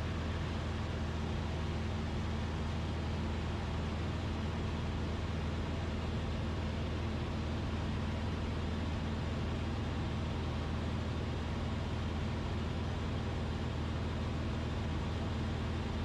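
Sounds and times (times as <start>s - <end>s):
aircraft engine drone in cockpit: 0.0s - 16.0s.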